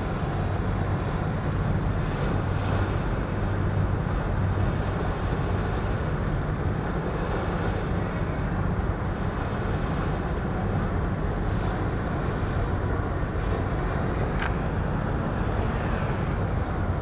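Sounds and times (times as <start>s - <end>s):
boat engine humming: 0.0s - 17.0s
water rushing: 0.0s - 17.0s.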